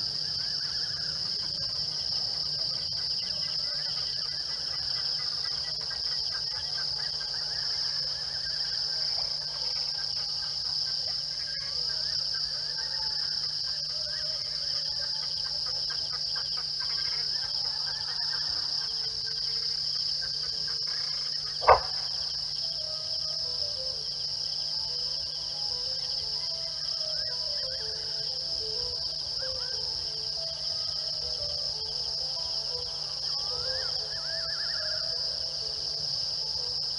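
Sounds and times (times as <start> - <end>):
crickets chirping chorus: 0.0 - 36.9
faint scattered chirps and calls: 0.0 - 36.9.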